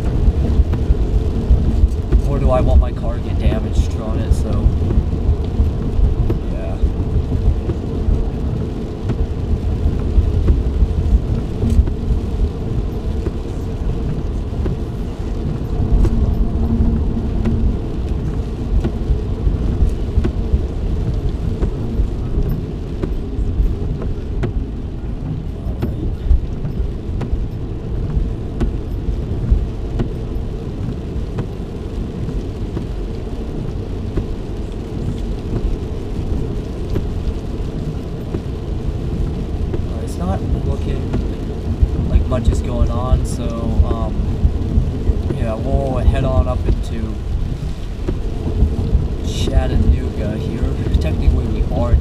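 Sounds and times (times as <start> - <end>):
car interior road rumble: 0.0 - 52.0.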